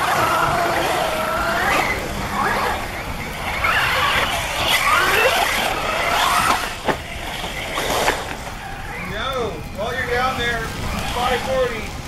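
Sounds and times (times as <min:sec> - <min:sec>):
rc buggy motors whining: 0:00.0 - 0:12.0.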